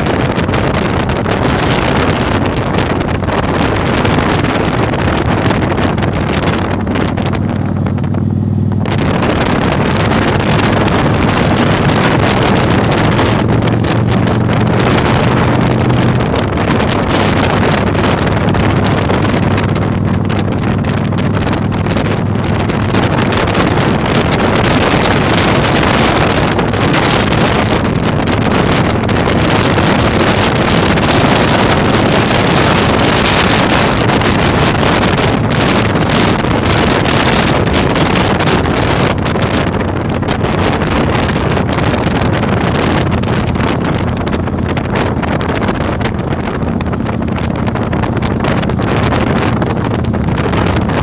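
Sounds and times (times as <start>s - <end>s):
motorcycle engine droning: 0.0s - 51.0s
wind buffeting microphone: 0.0s - 51.0s.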